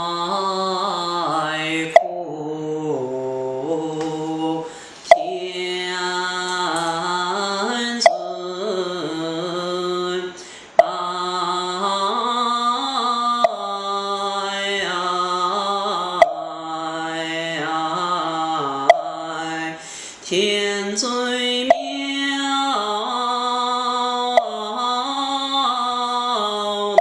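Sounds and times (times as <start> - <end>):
man chanting a hymn: 0.0 - 27.0.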